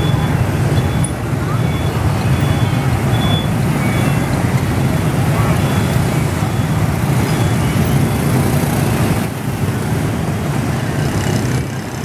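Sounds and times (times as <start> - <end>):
motorbikes and mopeds passing: 0.0 - 12.0.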